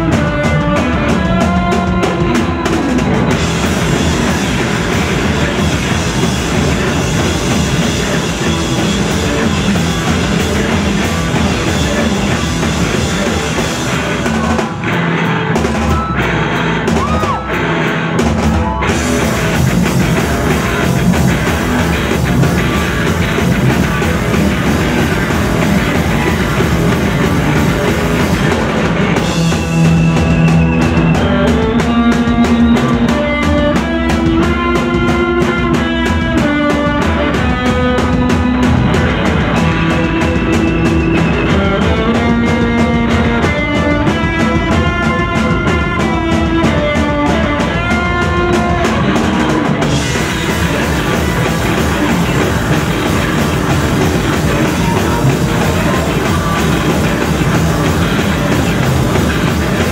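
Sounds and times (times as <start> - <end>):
live surf rock band: 0.0 - 59.9.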